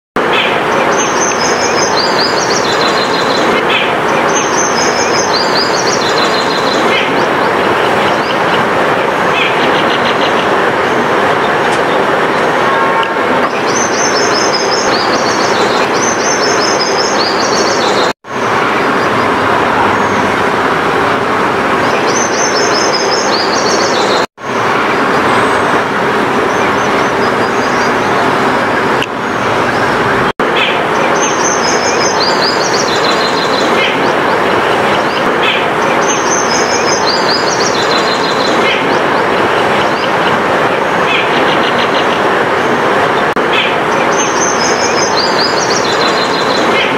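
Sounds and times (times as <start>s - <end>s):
steady rushing noise: 0.2s - 46.9s.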